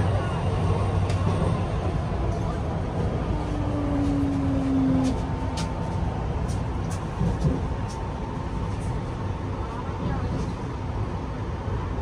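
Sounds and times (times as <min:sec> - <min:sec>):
metro train rumble: 0:00.0 - 0:12.0.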